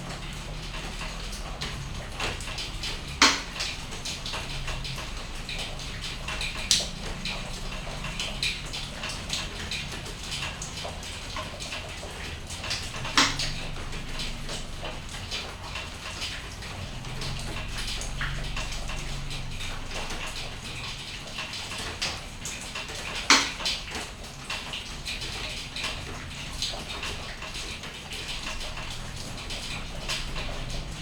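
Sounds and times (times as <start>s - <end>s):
rain dripping and pattering: 0.0s - 31.0s.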